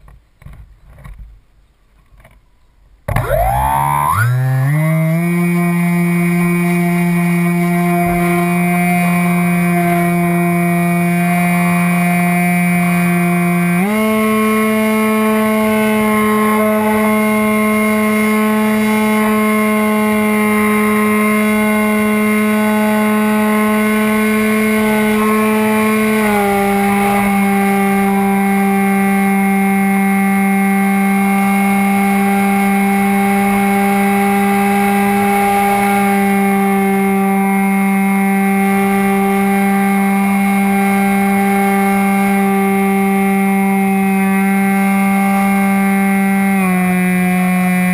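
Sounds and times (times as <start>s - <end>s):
model plane motor humming: 3.1s - 47.9s.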